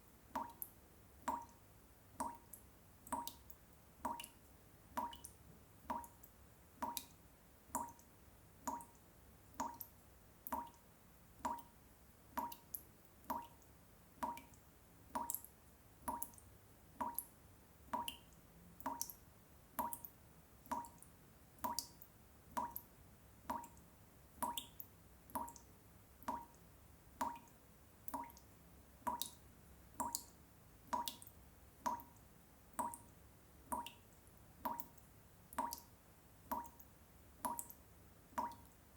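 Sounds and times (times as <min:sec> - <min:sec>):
water drops dripping: 0:00.3 - 0:01.6, 0:02.2 - 0:10.8, 0:11.4 - 0:11.7, 0:12.4 - 0:19.2, 0:19.8 - 0:26.6, 0:27.2 - 0:33.1, 0:33.7 - 0:38.8.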